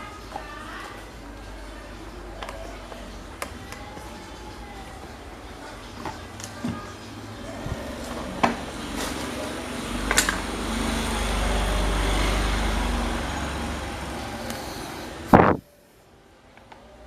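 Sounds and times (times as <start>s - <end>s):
electric fan motor hum: 0.0s - 15.8s.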